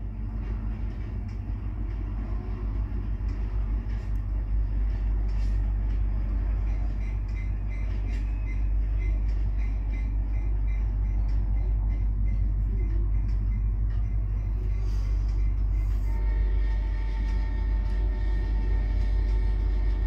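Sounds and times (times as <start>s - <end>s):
diesel train rumbling: 0.0s - 20.0s
wheels ticking on rails: 0.0s - 20.0s.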